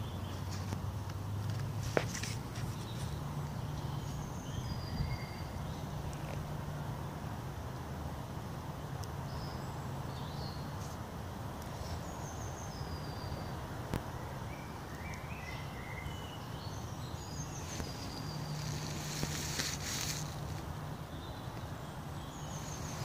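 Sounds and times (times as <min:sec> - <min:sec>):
small birds singing and chirping: 0:01.5 - 0:07.2, 0:08.4 - 0:23.0.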